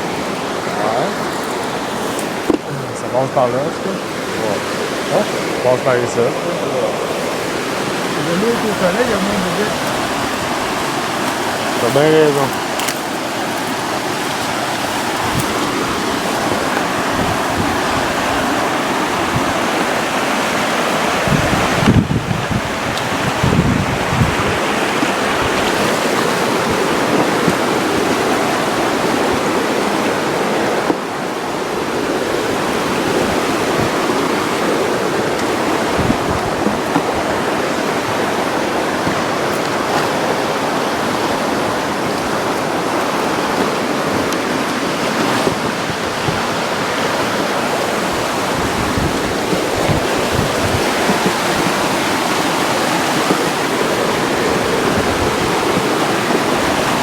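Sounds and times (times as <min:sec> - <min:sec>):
river water over rapids: 0:00.0 - 0:57.0.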